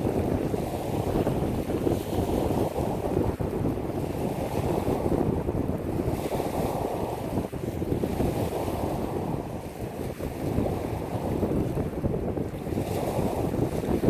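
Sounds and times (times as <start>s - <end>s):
waves on pebble beach: 0.0s - 14.0s
wind buffeting microphone: 0.0s - 14.0s.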